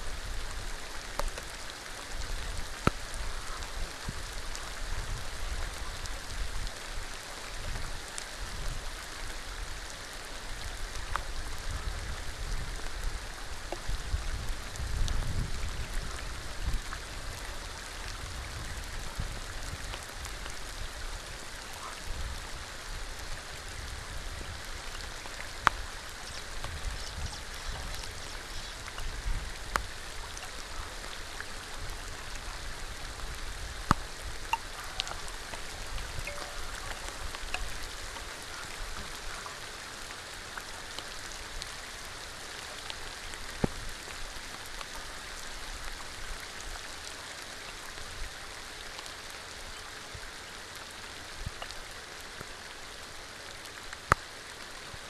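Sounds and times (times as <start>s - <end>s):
rain falling on a pool: 0.0s - 55.0s.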